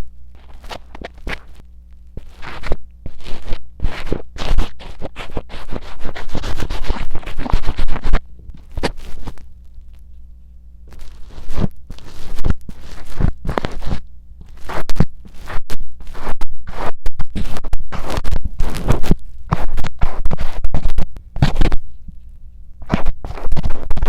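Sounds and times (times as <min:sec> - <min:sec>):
steady low hum: 0:00.0 - 0:24.0
scratching and scraping on microphone: 0:00.3 - 0:01.6, 0:02.2 - 0:24.0.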